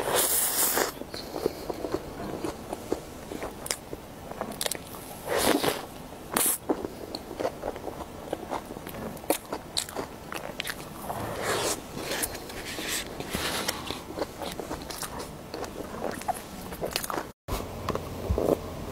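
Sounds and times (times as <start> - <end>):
chewing with mouth clicks: 0.6 - 11.3, 12.0 - 17.4.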